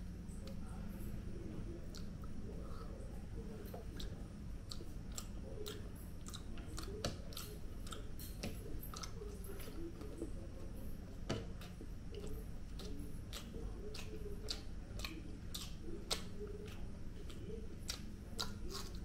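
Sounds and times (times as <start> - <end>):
person chewing food: 0.3 - 19.0.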